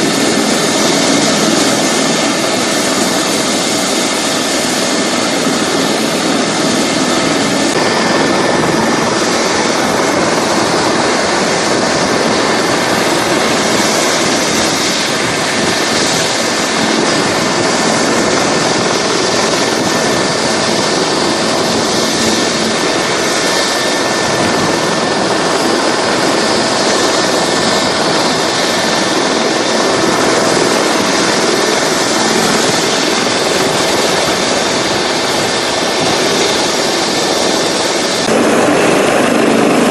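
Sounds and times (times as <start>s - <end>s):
helicopter turbine engines rushing: 0.0s - 39.9s.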